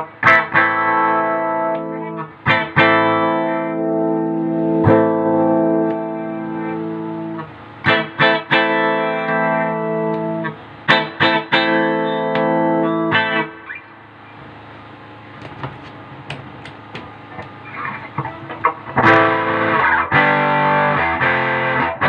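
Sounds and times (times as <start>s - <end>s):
picked electric guitar notes: 0.0s - 14.5s, 16.8s - 22.0s
electric guitar chords ringing: 0.0s - 15.3s, 16.8s - 22.0s.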